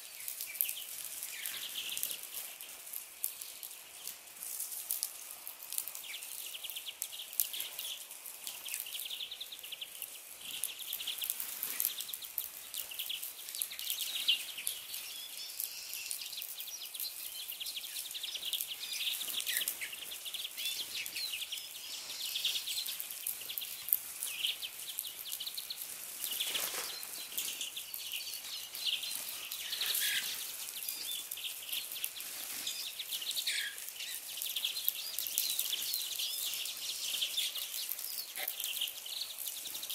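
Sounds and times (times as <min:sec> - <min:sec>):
small clicks and ticks: 0:00.0 - 0:39.9
songbirds chirping and twittering: 0:00.0 - 0:39.9.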